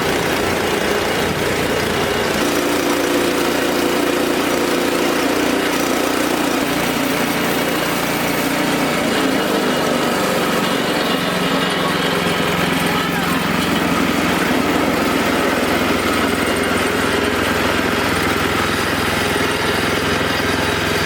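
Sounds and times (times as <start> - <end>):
band sawmill cutting log: 0.0 - 21.0
engine running under load: 0.0 - 21.0.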